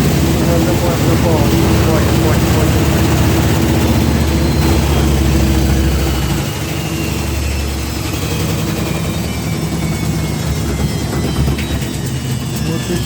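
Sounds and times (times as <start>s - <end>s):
drum rattling and knocking: 0.0s - 13.0s
faint falling whines: 0.0s - 13.0s
washing machine spinning: 0.0s - 13.0s.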